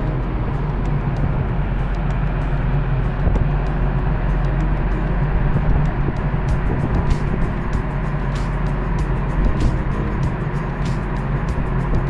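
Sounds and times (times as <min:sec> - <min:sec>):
constant rushing noise: 0:00.0 - 0:12.0
ship engines droning: 0:00.0 - 0:12.0.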